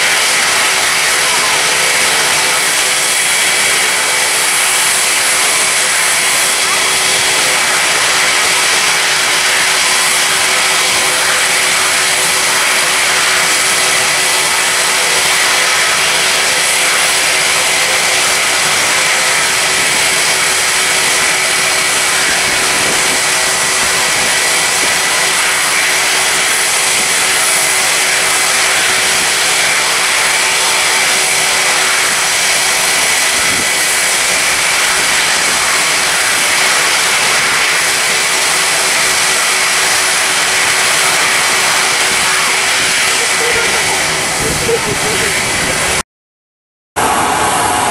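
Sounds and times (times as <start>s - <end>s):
jet engines roaring: 0.0s - 46.0s, 47.0s - 47.9s.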